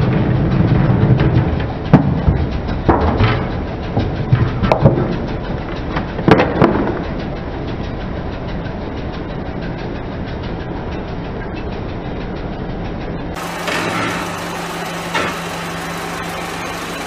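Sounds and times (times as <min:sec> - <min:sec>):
car rolling rumble: 0:00.0 - 0:17.0.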